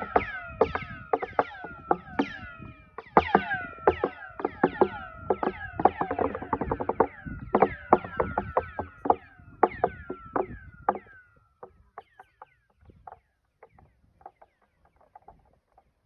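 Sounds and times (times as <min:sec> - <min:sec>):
echoing clicks with falling whistle: 0:00.0 - 0:15.4.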